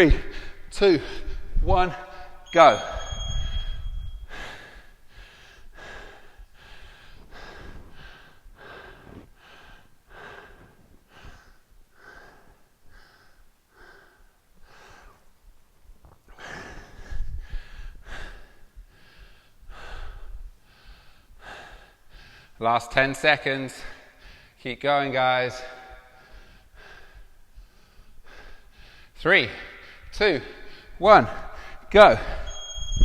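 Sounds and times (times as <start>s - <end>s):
person breathing hard: 0.1s - 2.4s, 4.2s - 15.4s, 16.3s - 22.6s, 23.8s - 24.6s, 25.7s - 32.5s.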